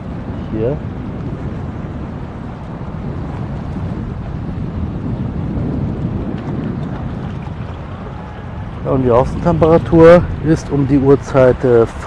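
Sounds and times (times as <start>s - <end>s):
choppy sea water: 0.0s - 12.0s
wind buffeting microphone: 0.0s - 12.0s.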